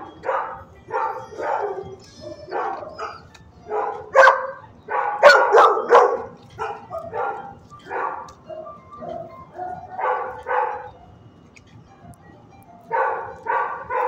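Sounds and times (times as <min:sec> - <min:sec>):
dog barking: 0:00.0 - 0:11.0, 0:12.9 - 0:14.0.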